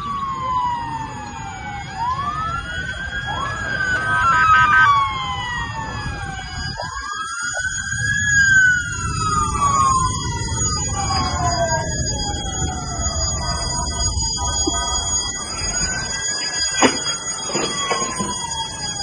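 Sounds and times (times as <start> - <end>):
sirens wailing: 0.0 - 19.0
steady siren blare: 0.0 - 19.0.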